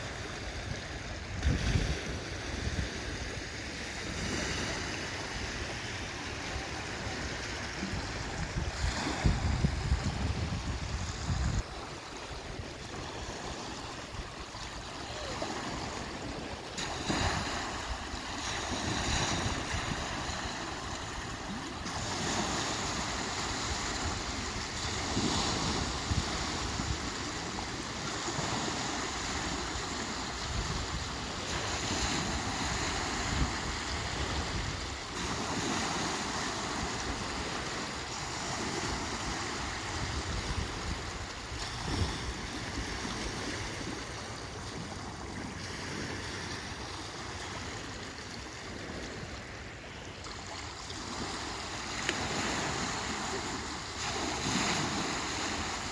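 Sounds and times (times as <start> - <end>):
small waves washing on shore: 0.0 - 55.9.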